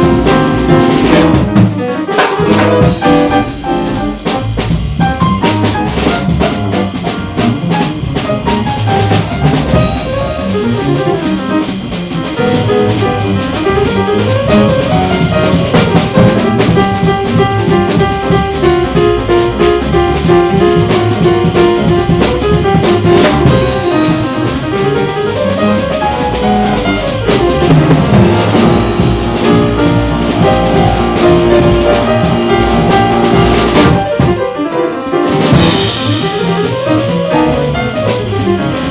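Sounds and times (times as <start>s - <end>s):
busy drums: 0.0s - 38.9s
jazz piano trio playing: 0.0s - 38.9s.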